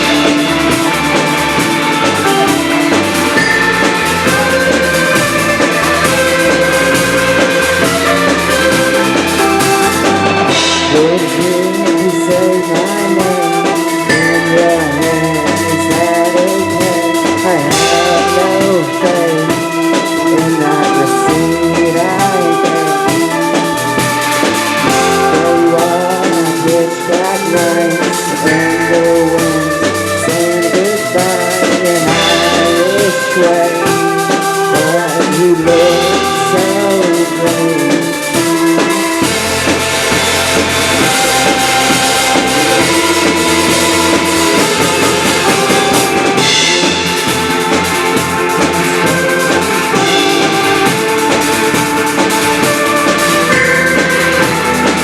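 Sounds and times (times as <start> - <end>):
drum kit: 0.0 - 55.0
live band playing: 0.0 - 55.0.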